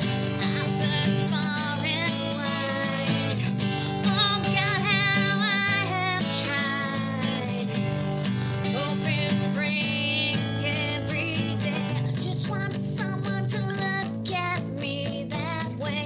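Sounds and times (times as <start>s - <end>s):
strummed acoustic guitar: 0.0s - 16.0s
woman singing: 0.0s - 16.0s.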